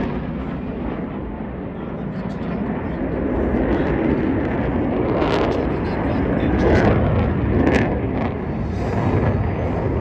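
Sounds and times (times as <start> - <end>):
fighter jets flying past: 0.0 - 10.0.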